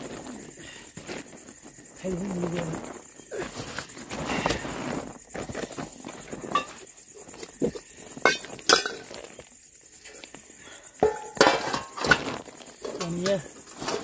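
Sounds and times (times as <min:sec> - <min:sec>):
tent bag rustling: 0:00.0 - 0:09.8, 0:11.9 - 0:14.0.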